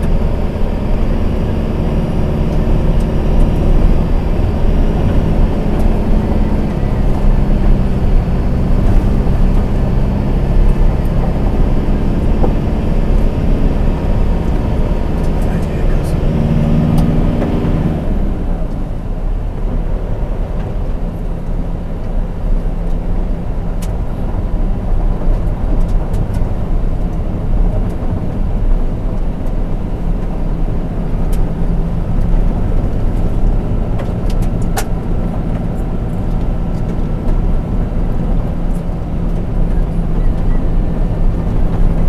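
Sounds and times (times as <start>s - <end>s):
vehicle rumbling on dirt road: 0.0s - 42.0s.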